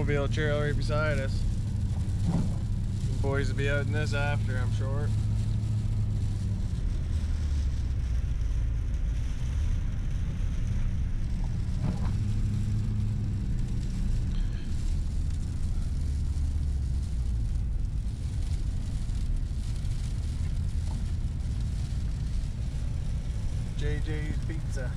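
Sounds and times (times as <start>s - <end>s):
truck engine and road drone: 0.0s - 24.9s.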